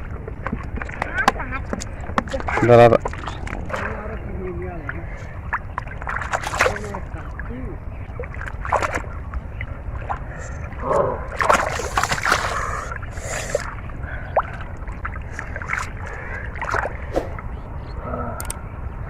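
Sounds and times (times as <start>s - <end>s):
muddy water splashing: 0.0s - 17.5s
steady low rumble: 0.0s - 19.0s.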